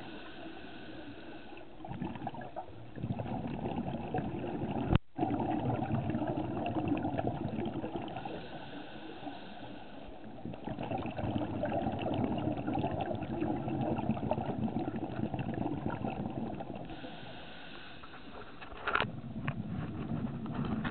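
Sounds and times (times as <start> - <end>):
muffled underwater bubbles gurgling: 0.0 - 18.4.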